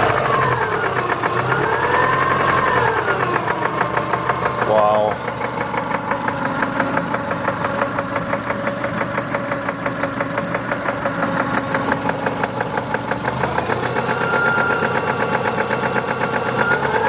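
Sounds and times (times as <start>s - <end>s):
car engine knocking: 0.0s - 17.0s.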